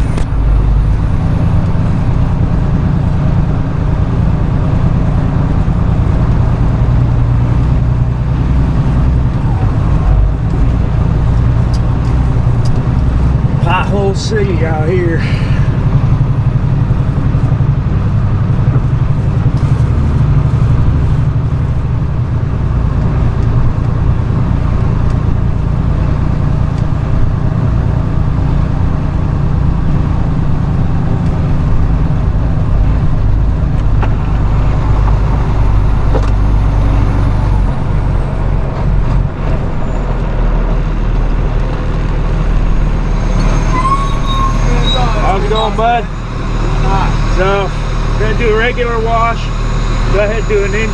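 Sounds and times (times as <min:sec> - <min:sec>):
road rumble: 0:00.0 - 0:50.9
truck engine drone: 0:00.0 - 0:50.9.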